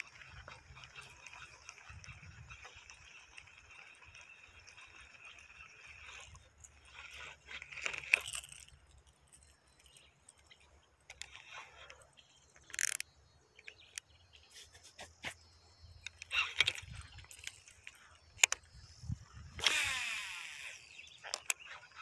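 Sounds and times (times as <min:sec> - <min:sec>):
handling rustles and clicks: 0:00.0 - 0:19.9, 0:21.0 - 0:22.0.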